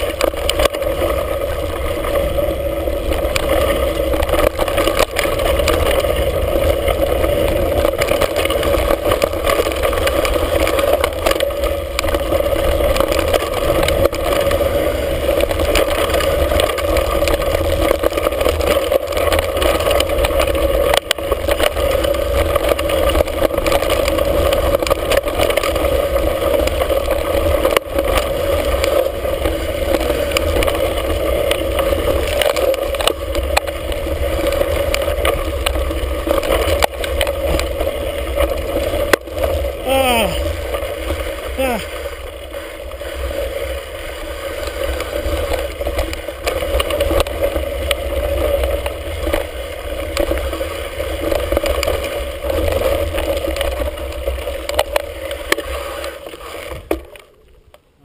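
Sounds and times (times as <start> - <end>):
bike rattling: 0.0 - 58.0
tyre noise: 0.0 - 58.0.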